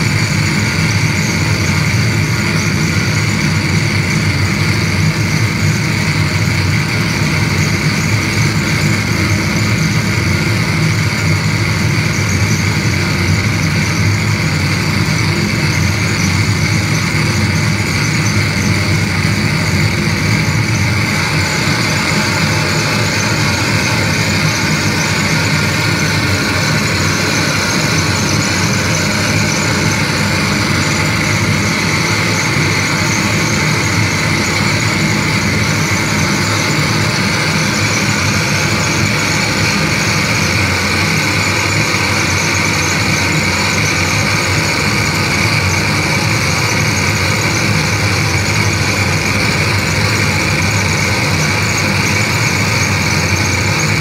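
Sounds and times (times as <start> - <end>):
harsh electronic noise: 0.0 - 54.0.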